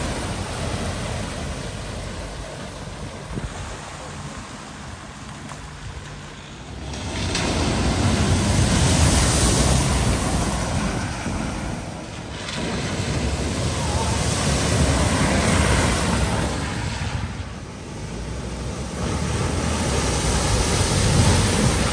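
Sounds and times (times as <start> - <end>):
cars splashing through water: 0.0 - 21.9.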